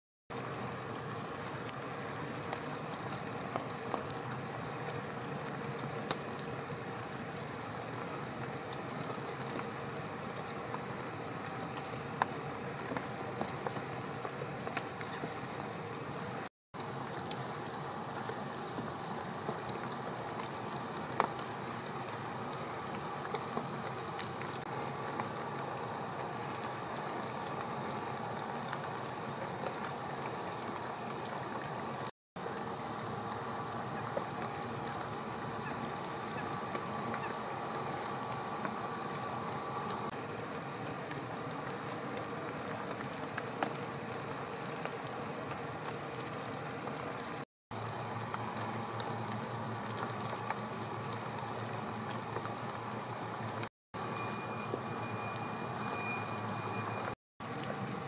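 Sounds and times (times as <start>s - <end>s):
steady rain falling: 0.3s - 58.0s.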